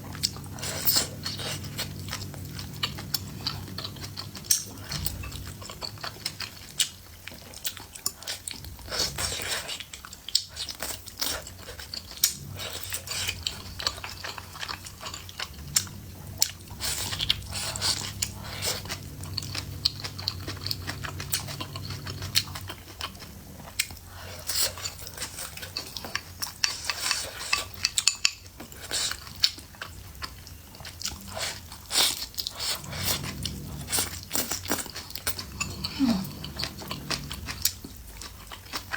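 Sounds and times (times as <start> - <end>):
person chewing and crunching: 0.0 - 38.9.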